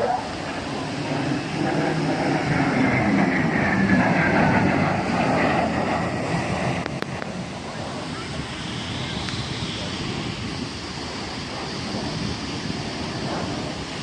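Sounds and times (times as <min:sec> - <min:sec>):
fighter jet flying by: 0:00.0 - 0:14.0.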